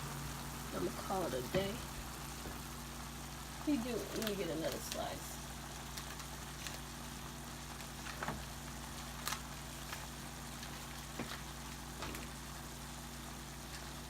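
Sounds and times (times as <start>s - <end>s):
meat sizzling in oil: 0.0s - 14.0s
oil popping: 0.0s - 14.0s.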